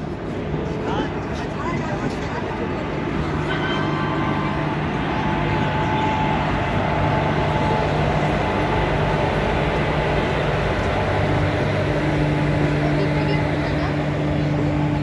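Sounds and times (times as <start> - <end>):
train wheels on track: 0.0 - 15.0.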